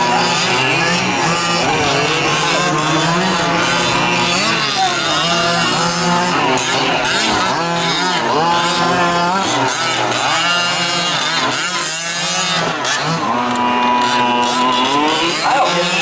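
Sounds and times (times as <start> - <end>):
small two-stroke engines revving: 0.0 - 16.0.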